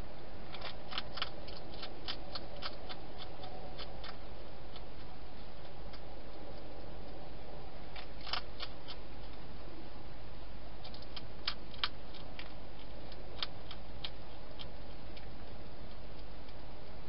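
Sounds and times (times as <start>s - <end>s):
hedgehog crunching food: 0.4s - 9.6s, 10.6s - 17.0s.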